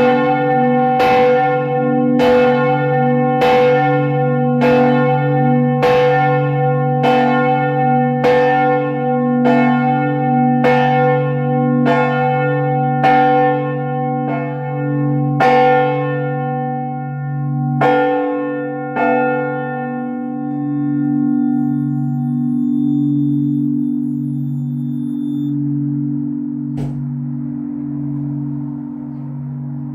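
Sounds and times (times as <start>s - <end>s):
church bell clapper strikes: 0.0s - 29.9s
low hum of bells: 0.0s - 29.9s.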